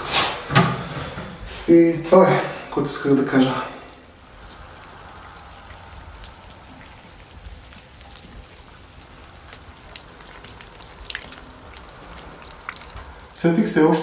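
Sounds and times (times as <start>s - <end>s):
faint background noise: 0.0s - 14.0s
water dripping from pipe: 2.7s - 14.0s.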